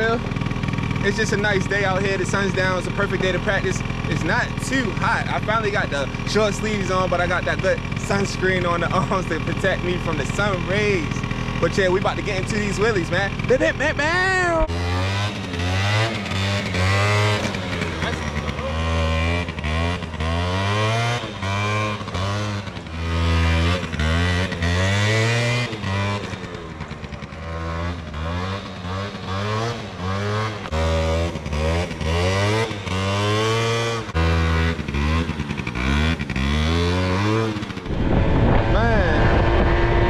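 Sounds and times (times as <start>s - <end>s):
scooter engine revving: 0.0s - 40.0s.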